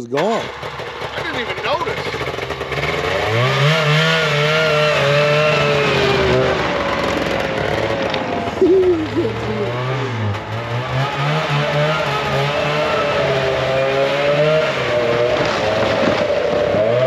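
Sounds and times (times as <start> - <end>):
vehicle engine revving: 0.2 - 17.0.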